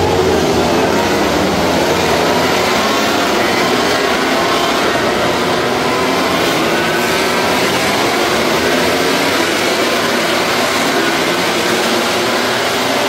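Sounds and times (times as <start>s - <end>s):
racing motorcycles at high revs: 0.0s - 13.0s.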